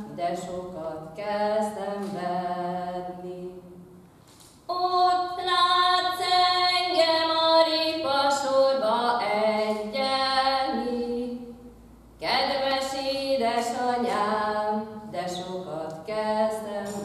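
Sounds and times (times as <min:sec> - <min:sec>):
woman singing unaccompanied: 0:00.0 - 0:03.7, 0:04.7 - 0:11.6, 0:12.2 - 0:17.0.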